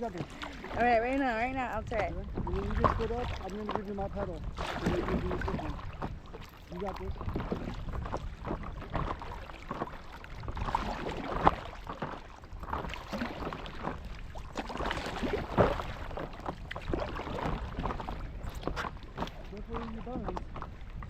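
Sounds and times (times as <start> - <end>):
paddles splashing in water: 0.0 - 21.0.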